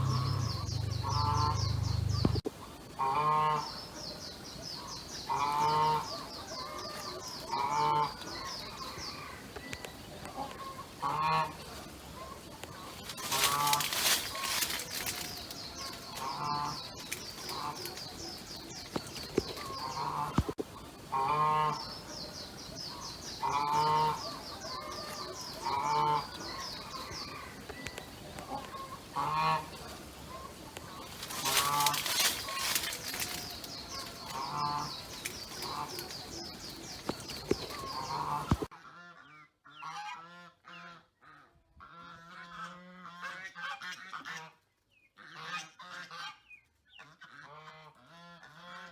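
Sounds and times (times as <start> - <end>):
farm animals calling: 0.0 - 48.9.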